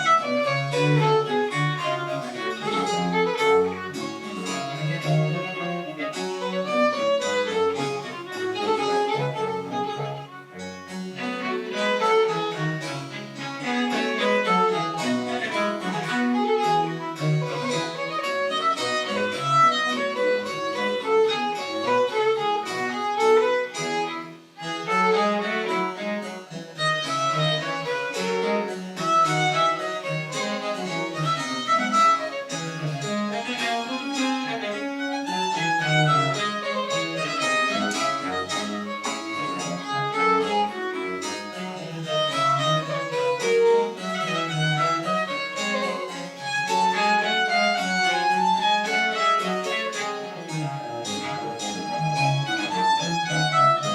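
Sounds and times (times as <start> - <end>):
bowed bass part: 0.0 - 53.9
bowed violin melody: 0.0 - 53.9.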